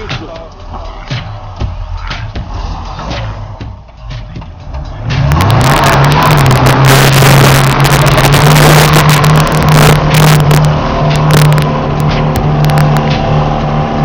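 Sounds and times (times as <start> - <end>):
car engine revving high: 0.7 - 14.0
car knocking and jolting: 1.6 - 13.8.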